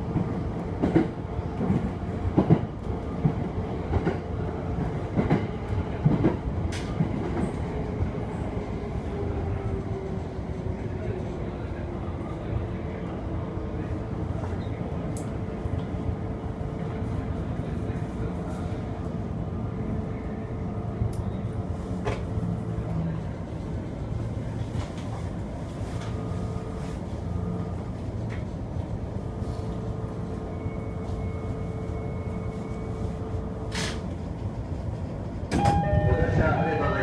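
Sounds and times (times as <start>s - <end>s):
train running noise: 0.0s - 37.0s.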